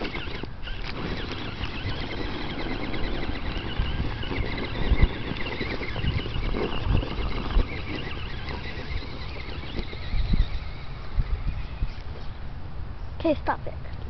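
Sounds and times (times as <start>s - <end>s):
small electric motor whining: 0.0s - 12.4s.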